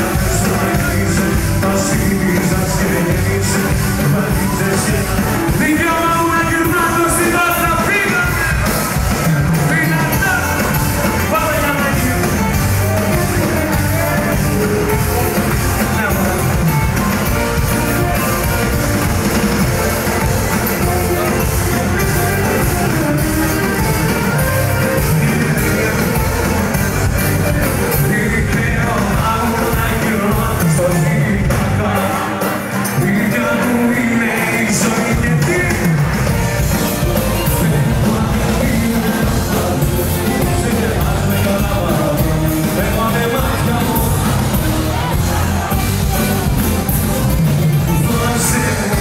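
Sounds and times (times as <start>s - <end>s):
singer with live band: 0.0s - 49.0s.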